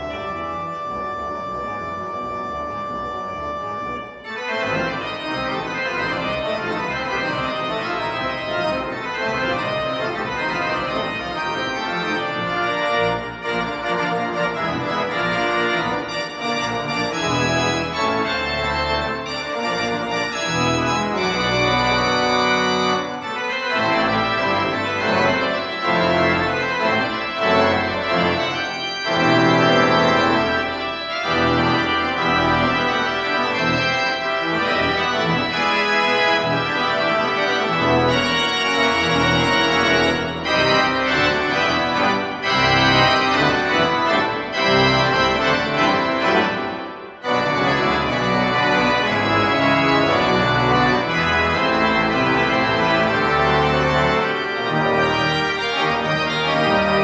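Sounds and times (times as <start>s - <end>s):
pipe organ chords: 0.0s - 57.0s.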